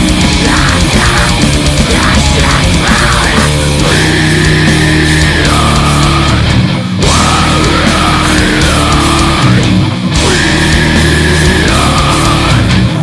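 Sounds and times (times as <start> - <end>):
heavy metal music: 0.0 - 13.0.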